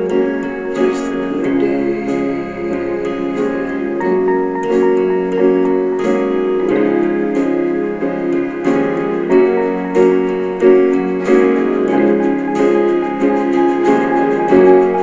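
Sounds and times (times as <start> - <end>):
piano chords in steady rhythm: 0.0 - 15.0.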